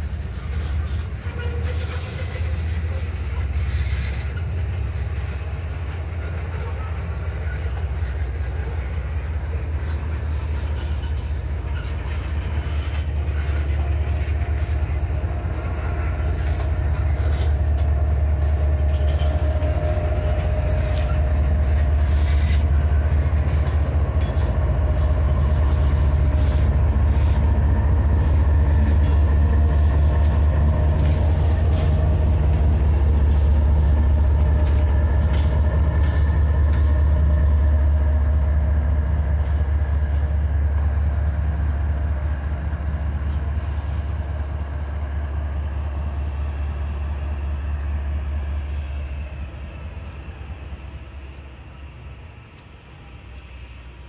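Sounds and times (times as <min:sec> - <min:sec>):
diesel locomotive engine drone: 0:00.0 - 0:54.0
steel wheels rumbling on rail: 0:00.0 - 0:54.0.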